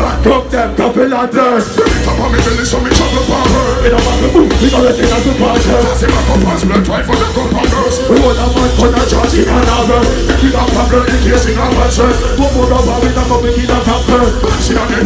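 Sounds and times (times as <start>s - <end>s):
heavy bass: 0.0s - 15.0s
live dancehall band music: 0.0s - 15.0s
person vocalizing over music: 0.0s - 15.0s.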